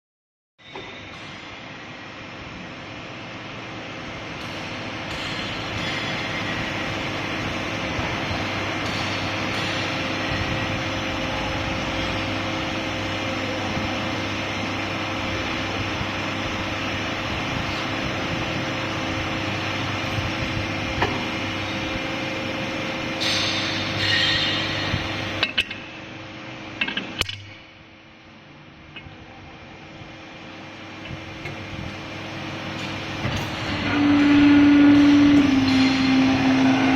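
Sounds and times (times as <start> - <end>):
machine humming and hissing: 0.6 - 36.9.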